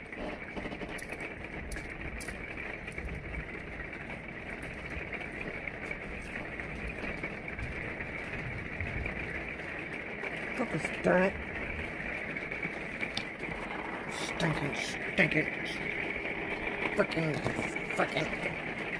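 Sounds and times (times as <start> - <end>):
room noise hum and hiss: 0.0 - 18.9.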